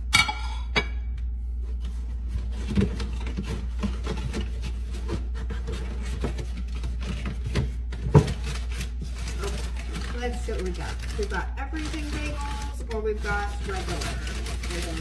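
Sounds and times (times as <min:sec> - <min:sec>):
paper bag rustling: 0:01.8 - 0:15.0.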